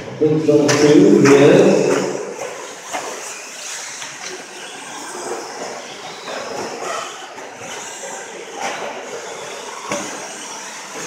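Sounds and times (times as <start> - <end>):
radio-controlled truck motors whining: 1.6 - 11.0.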